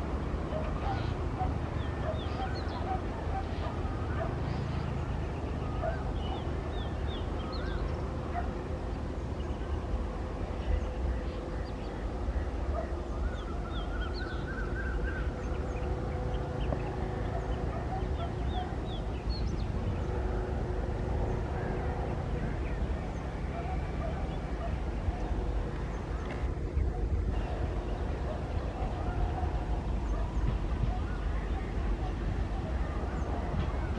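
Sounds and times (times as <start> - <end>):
train diesel engine idling: 0.0 - 33.9
birds chirping: 0.4 - 33.9.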